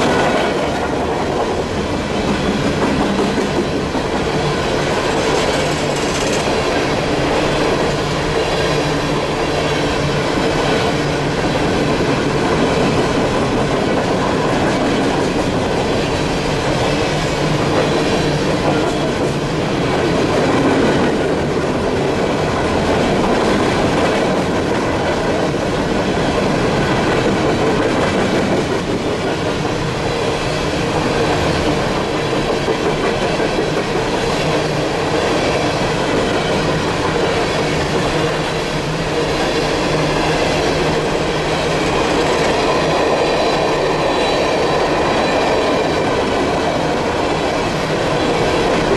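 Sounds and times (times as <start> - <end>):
train wheels rolling on rails: 0.0 - 48.9.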